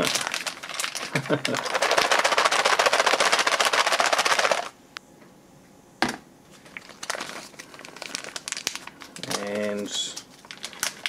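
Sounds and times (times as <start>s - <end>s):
plastic pouch crinkling: 0.0s - 4.7s, 6.6s - 11.0s.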